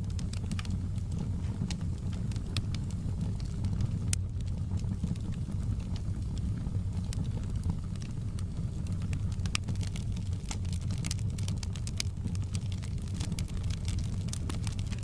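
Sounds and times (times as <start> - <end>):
fire flames rumbling: 0.0 - 15.0
wood crackling and popping: 0.0 - 15.0.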